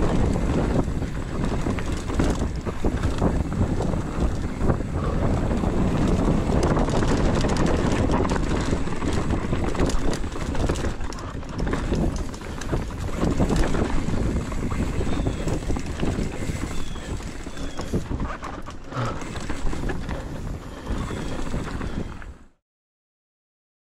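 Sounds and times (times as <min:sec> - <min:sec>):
bike chain and frame rattling: 0:00.0 - 0:22.3
tyres on dirt: 0:00.0 - 0:22.4
wind on microphone: 0:00.0 - 0:22.6.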